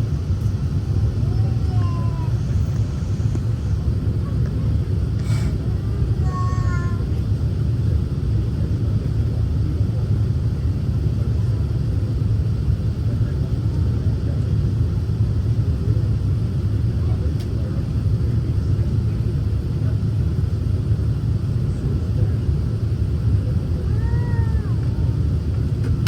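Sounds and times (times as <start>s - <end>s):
low rumble of jet engines: 0.0s - 26.0s.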